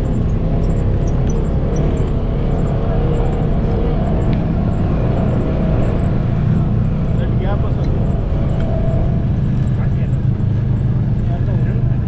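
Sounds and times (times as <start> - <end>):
off-road vehicle engine rumbling: 0.0 - 12.0.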